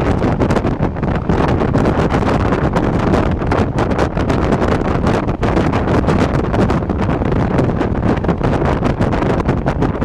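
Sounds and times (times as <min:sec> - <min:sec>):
train running noise: 0:00.0 - 0:10.0
wind buffeting microphone: 0:00.0 - 0:10.0.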